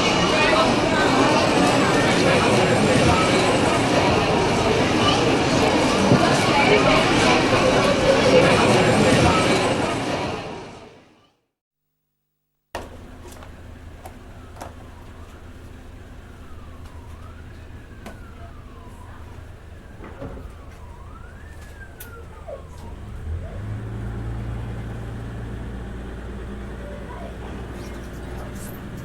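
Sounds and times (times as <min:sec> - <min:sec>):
siren wailing: 0:00.0 - 0:10.8, 0:13.2 - 0:29.0
heavy vehicle engine rumbling: 0:00.0 - 0:11.0, 0:12.8 - 0:29.0
traffic rumble: 0:00.0 - 0:11.0, 0:12.7 - 0:29.0.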